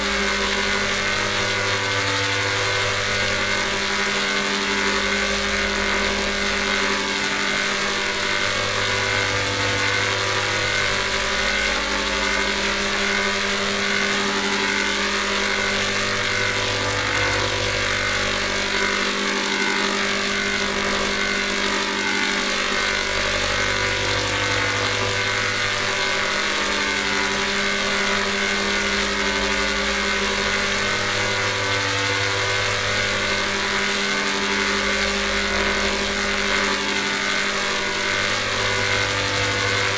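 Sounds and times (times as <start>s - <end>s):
electronic drone chord: 0.0s - 39.9s.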